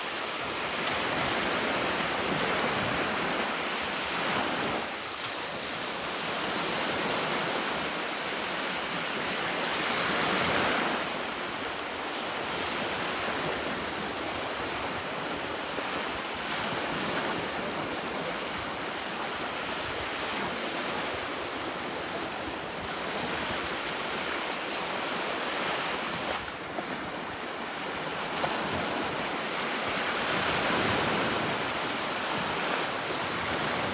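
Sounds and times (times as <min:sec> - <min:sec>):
sea waves washing on shore: 0:00.0 - 0:33.9.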